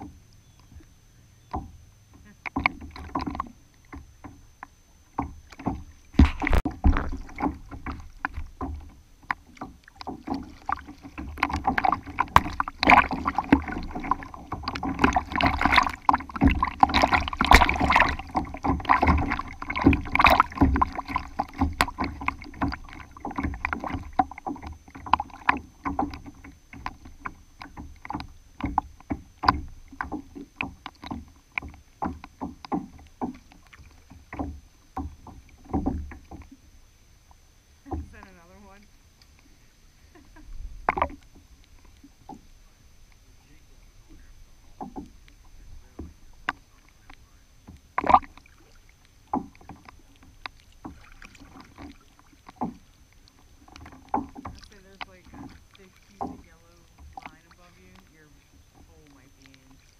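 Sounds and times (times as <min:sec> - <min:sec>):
water lapping against kayak: 0:00.0 - 0:59.9.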